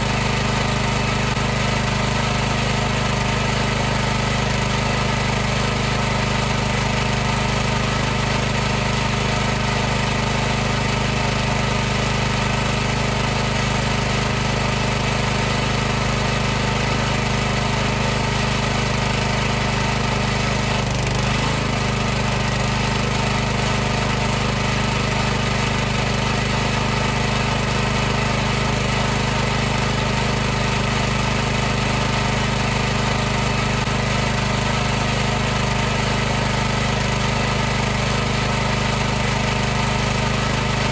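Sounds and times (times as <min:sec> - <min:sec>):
pressure washer pump humming: 0:00.0 - 0:40.9.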